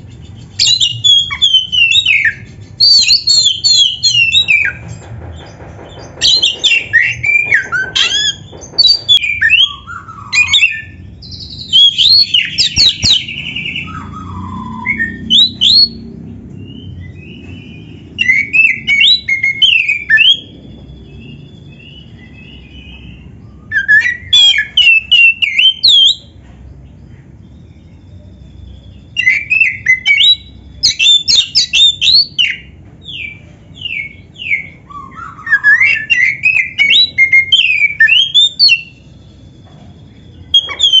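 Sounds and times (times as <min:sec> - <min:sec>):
bird singing whistled phrases: 0:00.5 - 0:04.8, 0:06.3 - 0:16.0, 0:16.6 - 0:26.3, 0:27.7 - 0:39.3, 0:40.2 - 0:41.0.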